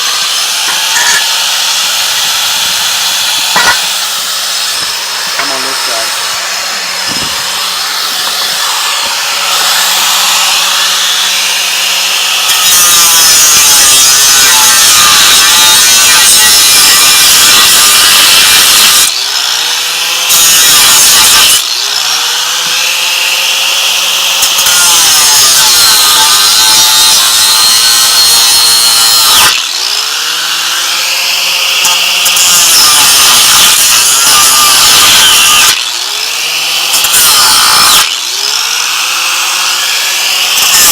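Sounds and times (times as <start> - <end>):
angle grinder cutting steel: 0.0 - 40.9.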